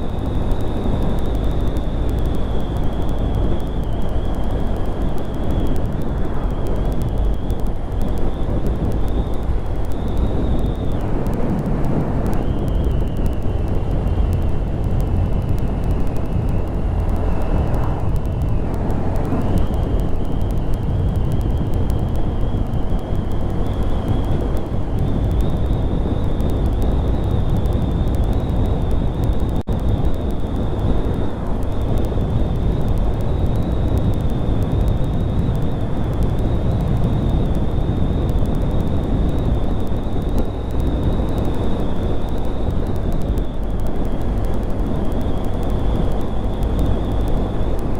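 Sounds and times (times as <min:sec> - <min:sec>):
high whine: 0:00.0 - 0:47.9
motorcycle engine running: 0:00.0 - 0:47.9
wind rumble on microphone: 0:00.0 - 0:47.9.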